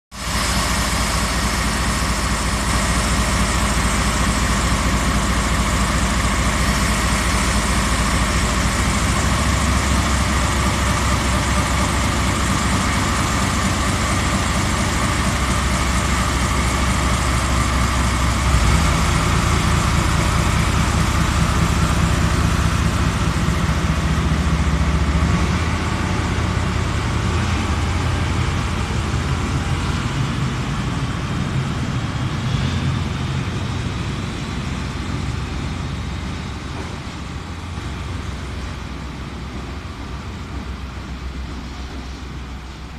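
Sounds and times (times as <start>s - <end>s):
diesel locomotive engine: 0.1s - 42.9s
rail car rolling past: 0.1s - 42.9s.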